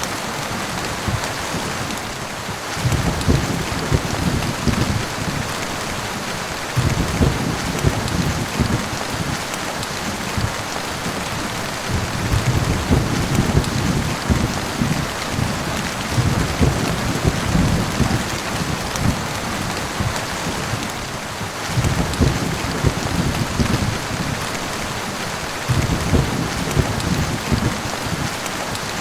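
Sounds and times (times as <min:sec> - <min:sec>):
heavy rain falling: 0:00.0 - 0:29.0
rolling thunder: 0:01.0 - 0:28.4.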